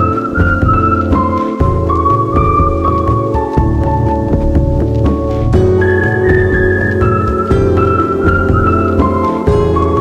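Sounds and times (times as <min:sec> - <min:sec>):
low pulsing accompaniment: 0:00.0 - 0:10.0.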